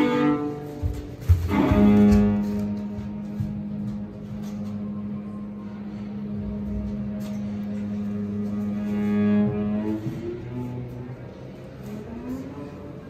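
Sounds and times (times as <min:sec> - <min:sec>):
cello bowed low note: 0:00.0 - 0:13.0.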